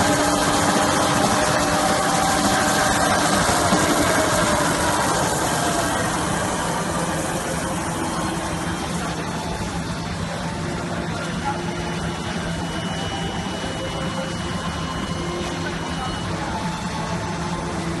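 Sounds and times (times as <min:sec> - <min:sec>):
machine whirring with rollers: 0:00.0 - 0:18.0.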